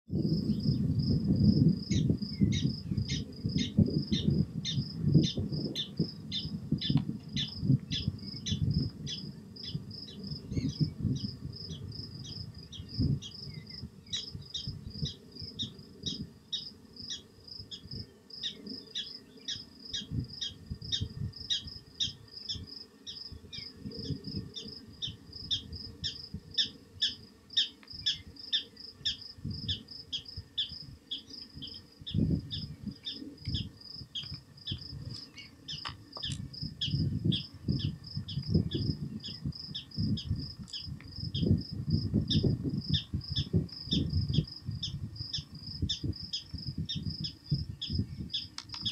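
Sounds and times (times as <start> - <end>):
wind gusting on microphone: 0.1 - 48.9.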